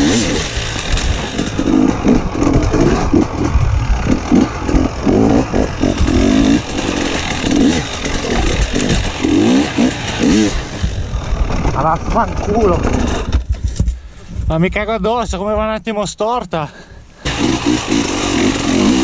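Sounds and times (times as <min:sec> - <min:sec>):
motorcycle engine revving: 0:00.0 - 0:13.5, 0:17.2 - 0:19.0.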